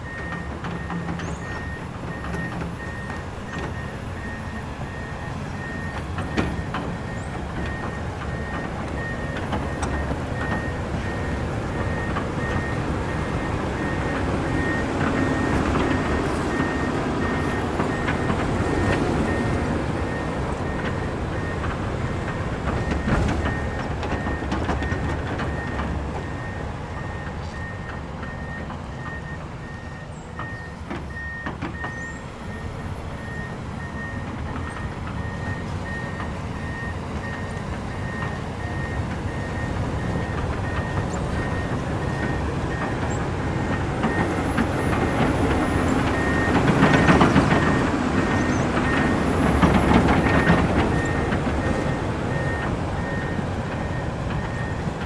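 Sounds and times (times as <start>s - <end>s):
excavator engine and hydraulics: 0.0s - 55.0s
warning alarm beeping: 0.0s - 55.0s.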